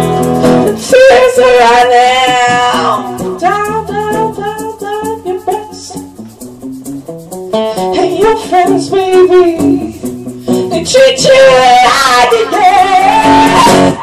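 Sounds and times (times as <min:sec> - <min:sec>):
woman singing: 0:00.0 - 0:06.1, 0:07.8 - 0:14.0
acoustic guitar: 0:00.0 - 0:14.0.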